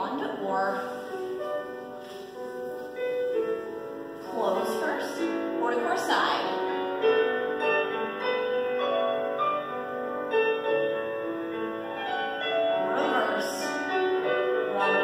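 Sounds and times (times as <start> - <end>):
piano melody over chords: 0.0 - 15.0.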